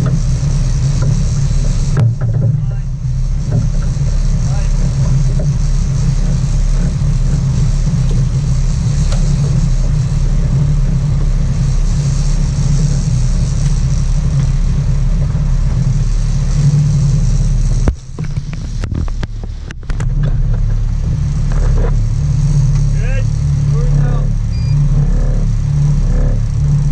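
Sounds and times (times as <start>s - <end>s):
boat engines droning: 0.0s - 26.9s
wind and water hiss: 0.0s - 26.9s.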